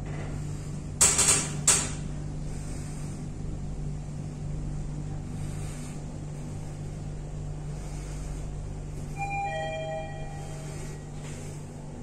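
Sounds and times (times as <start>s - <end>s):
elevator car humming in motion: 0.0s - 12.0s.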